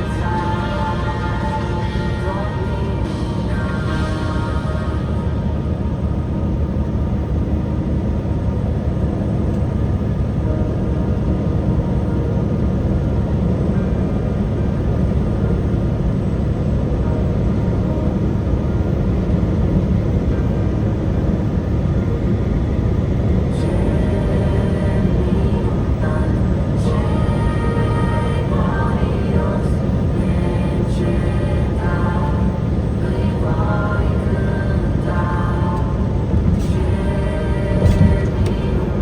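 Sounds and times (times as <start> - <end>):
truck engine and road rumble: 0.0 - 39.0.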